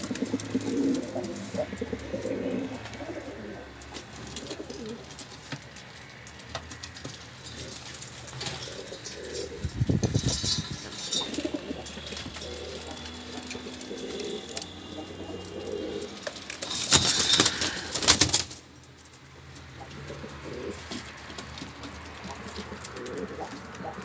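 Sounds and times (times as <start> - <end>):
pigeons cooing: 0.0 - 18.6, 19.5 - 24.0.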